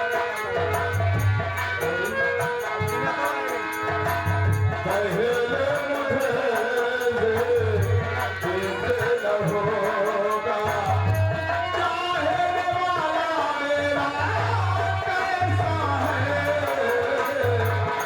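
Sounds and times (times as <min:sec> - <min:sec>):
rhythmic drum: 0:00.0 - 0:18.0.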